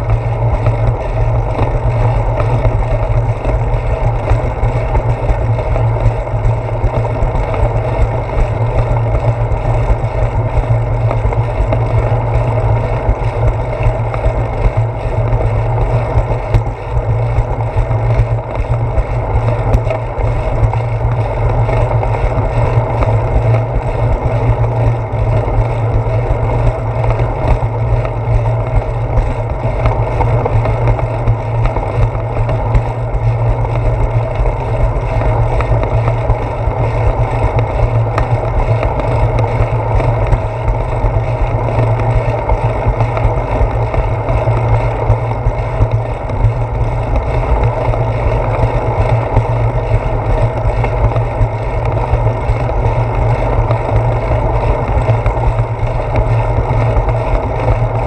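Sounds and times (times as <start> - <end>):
bicycle road vibration: 0.0 - 58.0.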